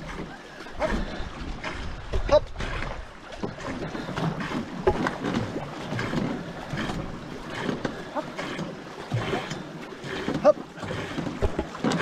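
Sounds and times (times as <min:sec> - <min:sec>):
paddle strokes through water: 0:00.0 - 0:12.0
water rushing along hull: 0:00.0 - 0:12.0
water splashing: 0:00.0 - 0:12.0.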